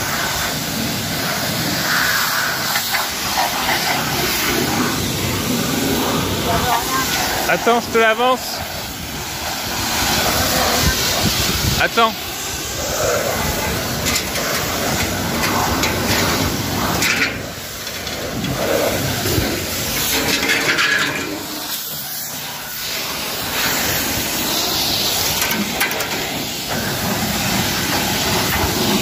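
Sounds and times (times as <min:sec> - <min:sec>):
pressure washer spraying water: 0:00.0 - 0:29.0.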